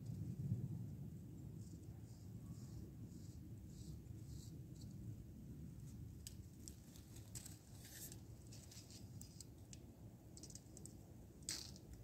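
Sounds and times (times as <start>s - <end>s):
outdoor background: 0.0s - 12.0s.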